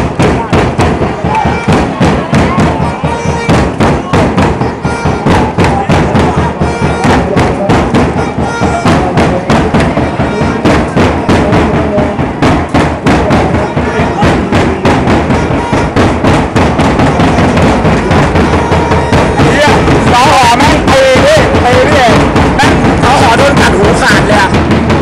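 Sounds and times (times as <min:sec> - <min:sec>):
drums beating steady rhythm: 0:00.0 - 0:25.0.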